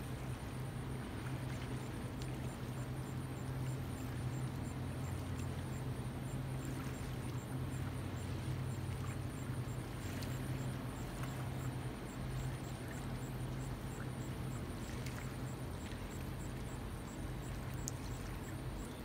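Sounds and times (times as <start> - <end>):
boat engine drone: 0.0 - 19.0.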